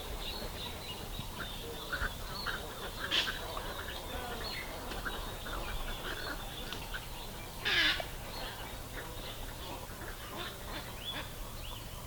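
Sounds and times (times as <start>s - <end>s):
birds chirping and calling: 0.2s - 12.0s.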